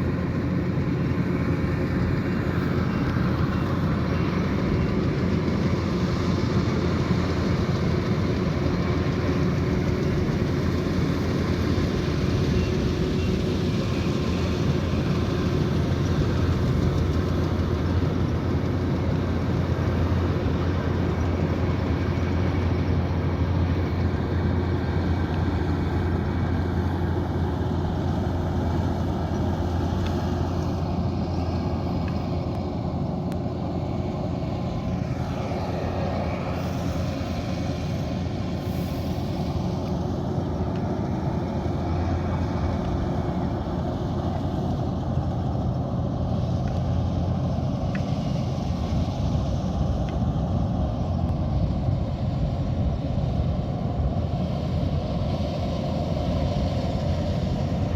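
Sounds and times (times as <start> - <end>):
cutting and threshing machinery: 0.0 - 53.2
combine harvester engine drone: 0.0 - 57.9.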